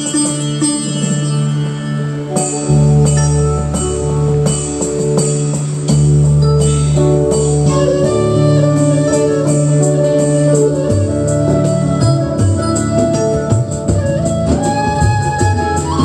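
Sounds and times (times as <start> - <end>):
percussion rhythm: 0.0 - 16.0
bass line: 1.2 - 16.0.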